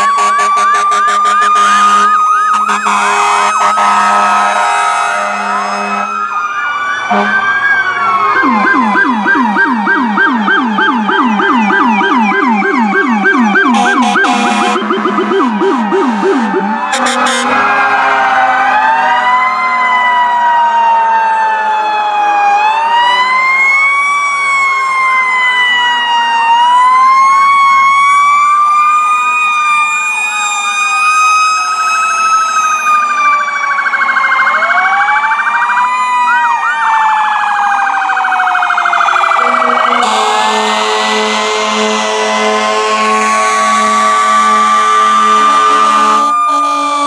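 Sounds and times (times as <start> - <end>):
rapid warbling siren: 0.0 - 47.0
wailing emergency sirens: 0.0 - 47.0.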